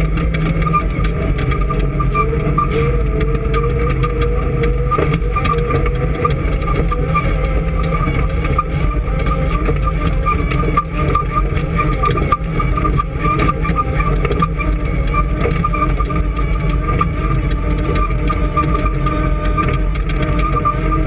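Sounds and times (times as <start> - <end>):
race car engine droning: 0.0 - 21.0
rattles and knocks: 0.0 - 21.0.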